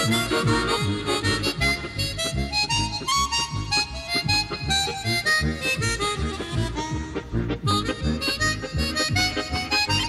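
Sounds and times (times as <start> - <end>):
lively soundtrack music: 0.0 - 10.0.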